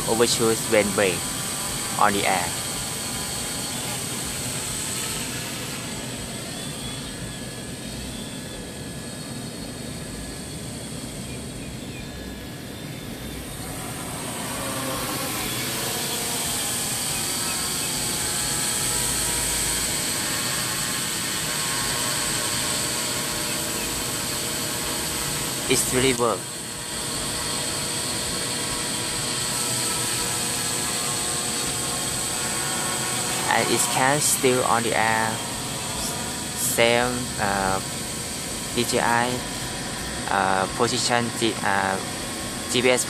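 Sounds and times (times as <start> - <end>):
drone propellers buzzing: 0.0 - 43.0.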